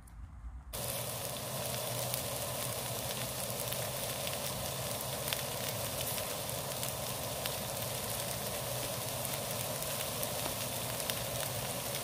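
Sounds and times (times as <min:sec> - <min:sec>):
meat sizzling in a pan: 0:00.8 - 0:12.0.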